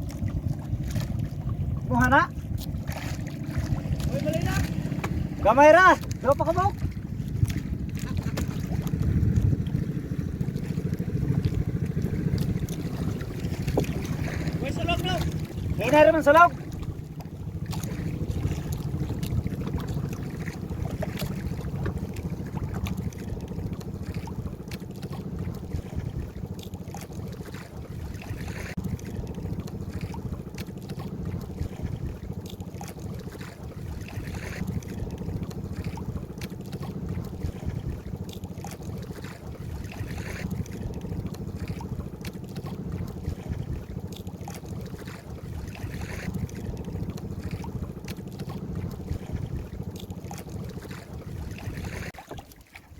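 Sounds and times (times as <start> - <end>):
wind buffeting microphone: 0.0 - 52.0
water slapping against hull: 0.0 - 52.9.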